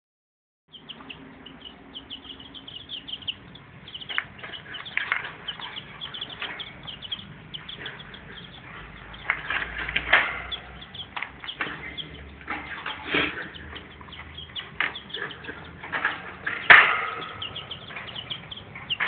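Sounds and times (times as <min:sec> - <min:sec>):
rats chirping: 0:00.7 - 0:19.0
wire cage rattling: 0:02.1 - 0:19.0.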